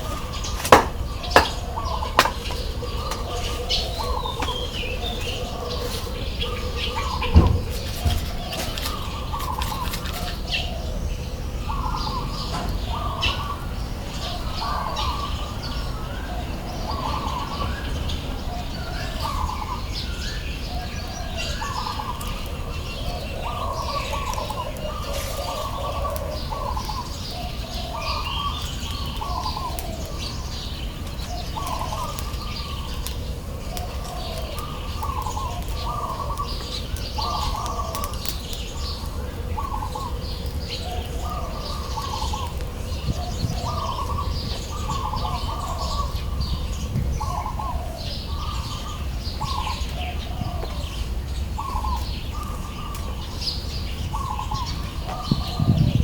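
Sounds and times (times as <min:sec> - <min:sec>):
birds calling: 0:00.0 - 0:56.0.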